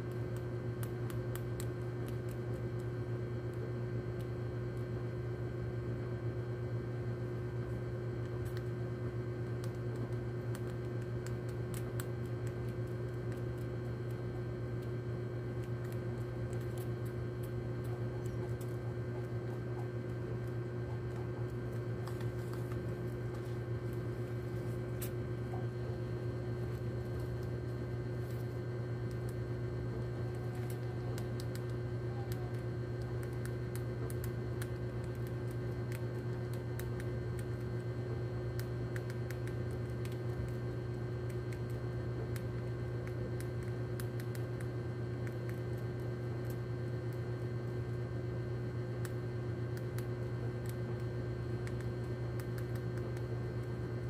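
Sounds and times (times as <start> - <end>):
rat gnawing pellets: 0.0 - 54.0
steady low hum: 0.0 - 54.0.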